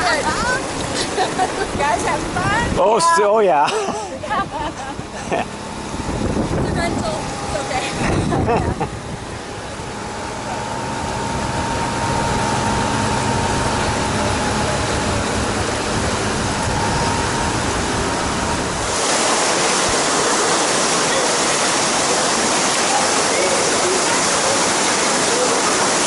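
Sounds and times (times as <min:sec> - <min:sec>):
falling water rushing: 0:00.0 - 0:26.0
low engine hum: 0:00.0 - 0:26.0
water rushing: 0:00.0 - 0:26.0.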